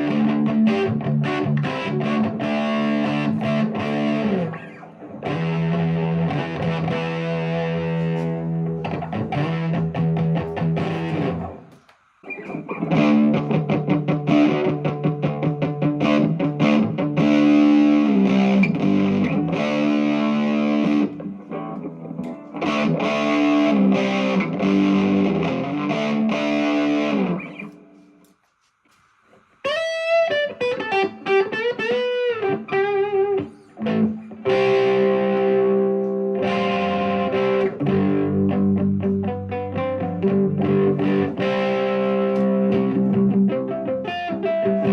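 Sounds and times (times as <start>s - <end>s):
electric guitar lead notes: 0.0s - 28.0s, 29.7s - 44.9s
electric guitar chords and riffs: 0.0s - 28.3s, 29.6s - 44.9s.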